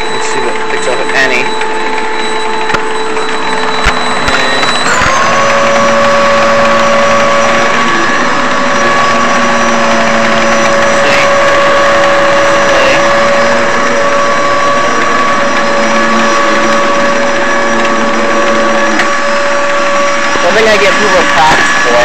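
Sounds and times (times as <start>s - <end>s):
upright vacuum cleaner running: 0.0s - 22.0s.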